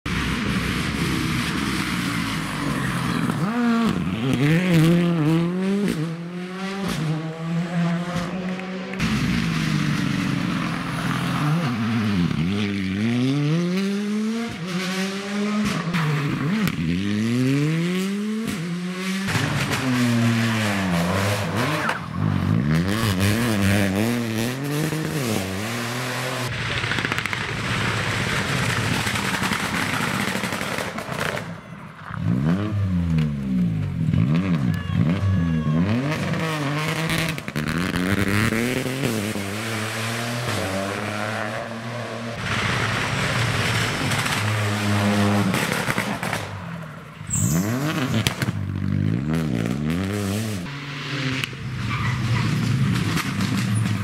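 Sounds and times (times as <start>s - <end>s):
rally car engine revving: 0.1s - 27.3s, 32.1s - 54.0s.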